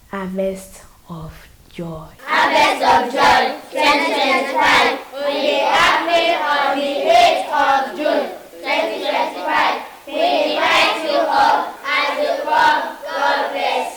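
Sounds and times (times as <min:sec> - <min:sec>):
children singing together: 0:02.2 - 0:13.9.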